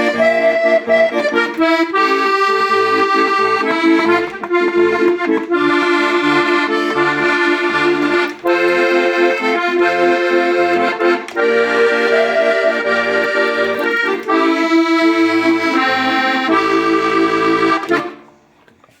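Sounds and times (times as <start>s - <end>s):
button accordion playing a tune: 0.0s - 18.4s.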